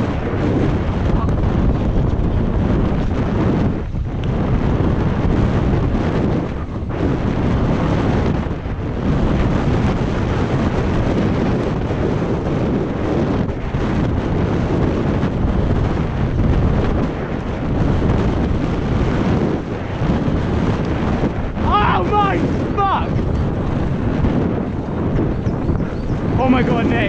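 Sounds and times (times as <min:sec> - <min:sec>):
bike tyres and frame rattling: 0:00.0 - 0:27.0
wind buffeting microphone: 0:00.0 - 0:27.0.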